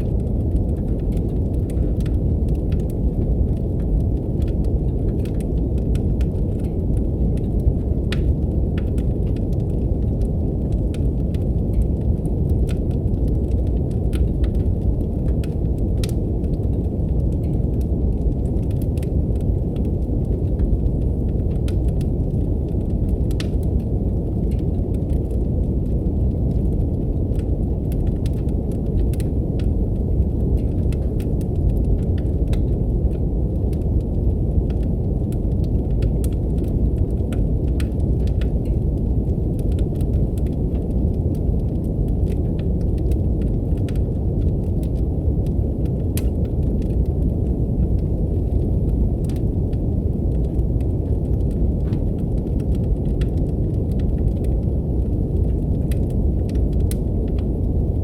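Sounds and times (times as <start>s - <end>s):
deep brown noise: 0.0s - 58.0s
wood fire crackling: 0.0s - 58.0s.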